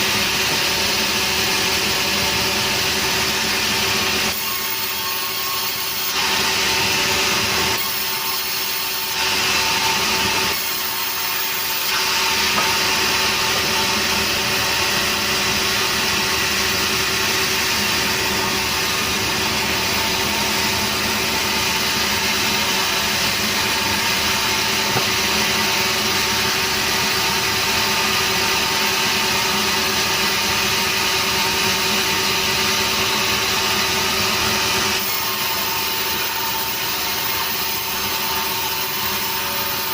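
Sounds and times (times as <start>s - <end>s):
saw cutting through log: 0.0s - 39.9s
sawmill saw drone: 0.0s - 39.9s.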